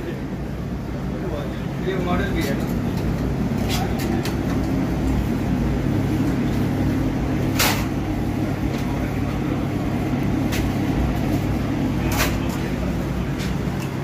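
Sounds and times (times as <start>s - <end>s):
kitchen equipment drone: 0.0s - 14.0s.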